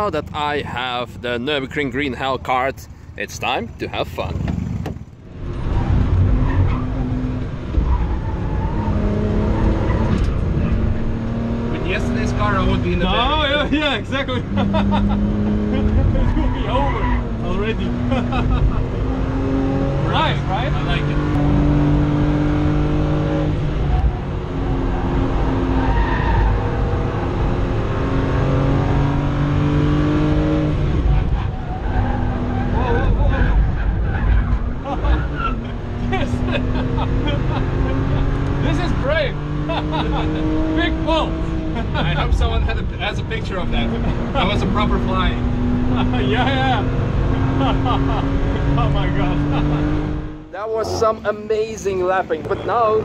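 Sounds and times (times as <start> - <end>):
tyre and road noise: 0.0 - 53.0
car engine running hard: 2.9 - 53.0.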